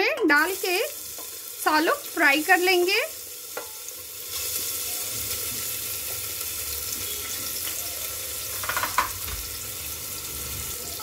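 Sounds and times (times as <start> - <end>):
cheese sizzling in hot fat: 0.3 - 11.0.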